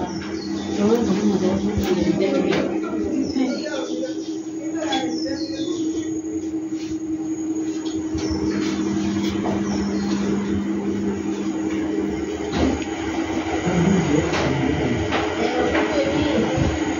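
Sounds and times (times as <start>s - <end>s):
low two-tone mechanical hum: 0.0s - 16.9s.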